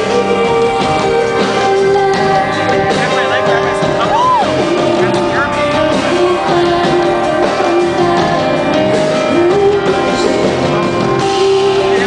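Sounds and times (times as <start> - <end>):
rock band with guitar: 0.0 - 12.0.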